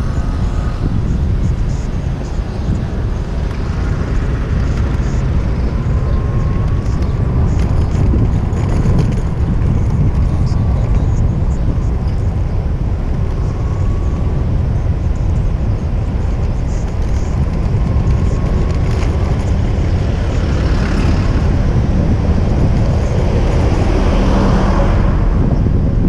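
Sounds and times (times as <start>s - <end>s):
city street traffic: 0.0s - 26.0s
wind buffeting microphone: 0.0s - 26.0s.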